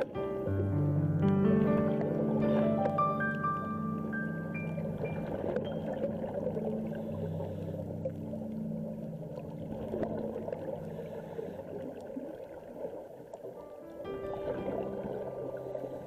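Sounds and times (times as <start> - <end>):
underwater bubbles gurgling: 0.0 - 16.0.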